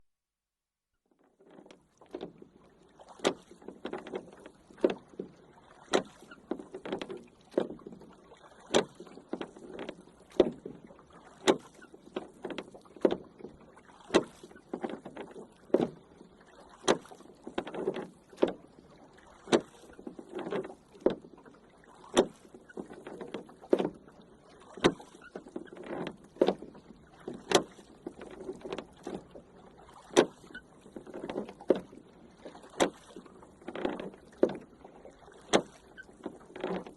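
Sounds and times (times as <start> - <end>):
oars splashing water: 1.1 - 36.9
wooden oar knocks: 1.2 - 36.9.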